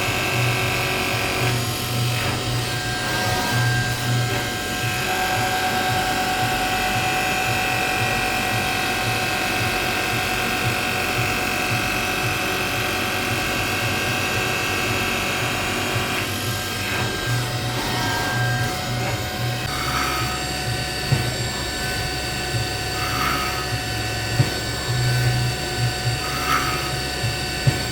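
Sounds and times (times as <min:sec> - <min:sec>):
low running hum: 0:00.0 - 0:27.9
machine whine: 0:00.0 - 0:27.9.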